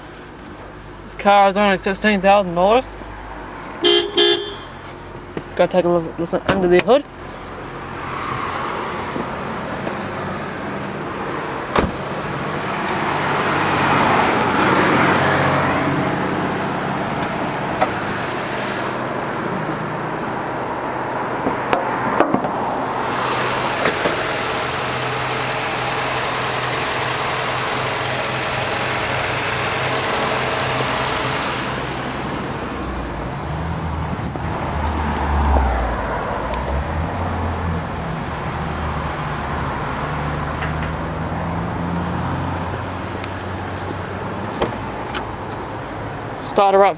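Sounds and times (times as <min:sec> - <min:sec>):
car engine idling: 0:00.0 - 0:21.4, 0:22.7 - 0:34.6, 0:36.4 - 0:46.9
road traffic passing: 0:00.0 - 0:46.9.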